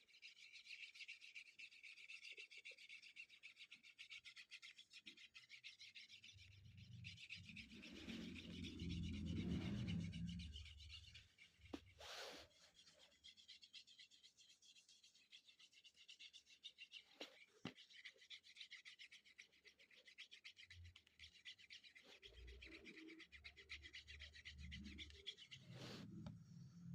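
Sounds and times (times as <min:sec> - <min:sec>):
pen rubbing on paper: 0:00.2 - 0:26.2.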